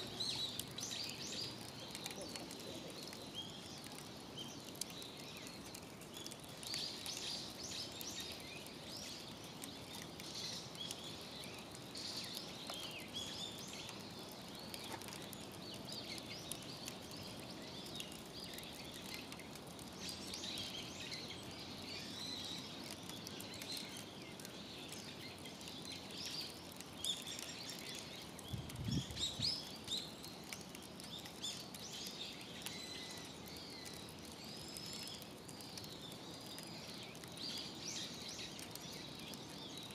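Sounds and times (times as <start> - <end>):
outdoor background hiss: 0.0 - 39.9
small birds chirping: 0.0 - 39.9.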